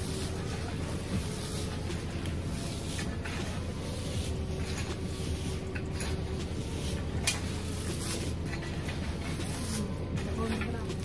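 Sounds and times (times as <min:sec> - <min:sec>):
low rumble: 0:00.0 - 0:11.0
shovels digging wood chips: 0:00.0 - 0:11.0.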